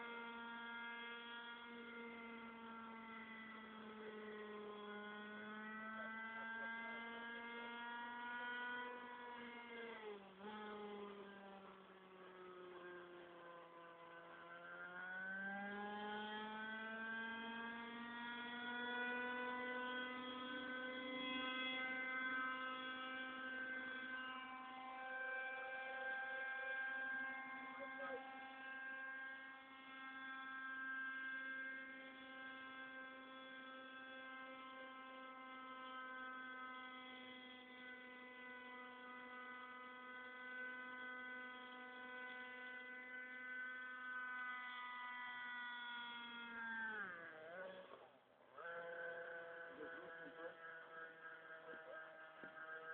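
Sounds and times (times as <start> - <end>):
remote-control helicopter whine: 0.0 - 52.9.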